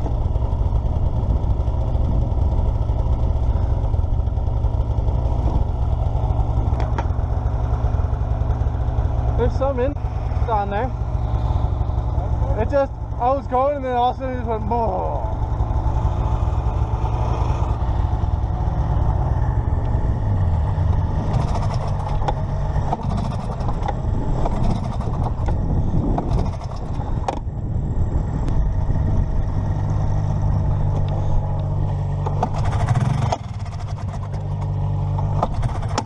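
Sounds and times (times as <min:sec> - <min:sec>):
snowmobile engine idling: 0:00.0 - 0:36.0.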